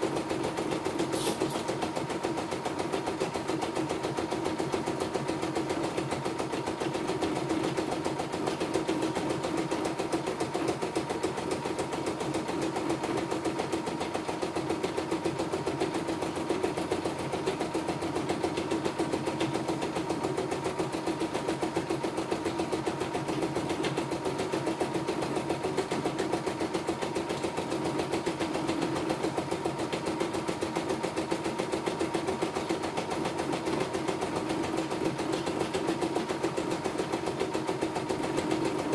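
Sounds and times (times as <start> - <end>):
embroidery machine stitching: 0.0 - 38.9.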